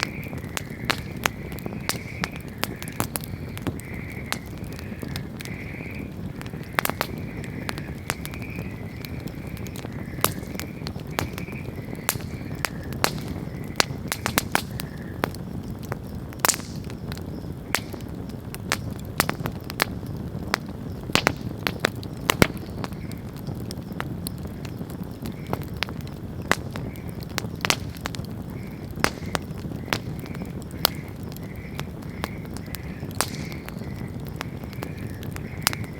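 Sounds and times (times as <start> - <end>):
fire flames rumbling: 0.0 - 35.9
wood crackling and popping: 0.0 - 35.9.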